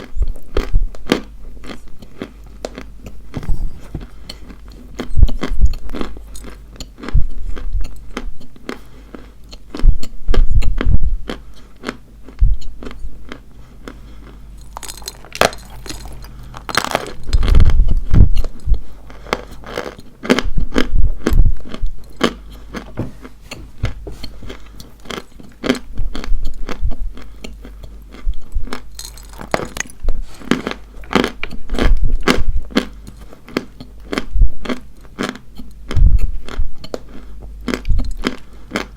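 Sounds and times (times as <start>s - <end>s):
chalk crunching when chewed: 0.0s - 23.4s, 24.2s - 38.9s.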